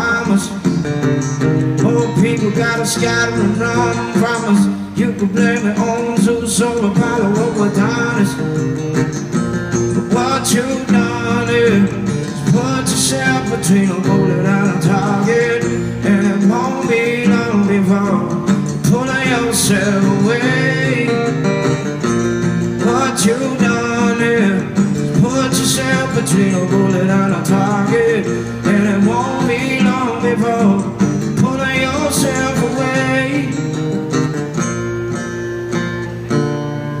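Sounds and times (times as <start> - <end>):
man singing: 0.0 - 8.8, 9.8 - 34.0
acoustic guitar strumming: 0.0 - 37.0.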